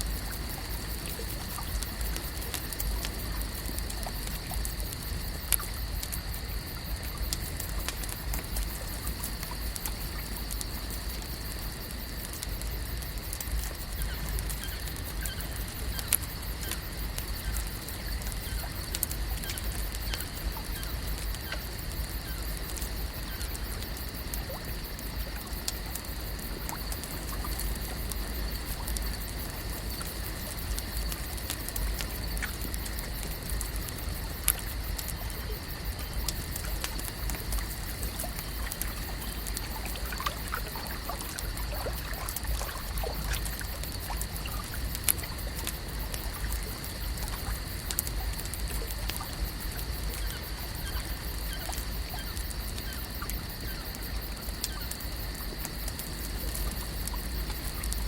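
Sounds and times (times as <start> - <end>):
small scattered clicks: 0.0 - 42.7, 43.3 - 58.0
lake water: 0.0 - 58.0.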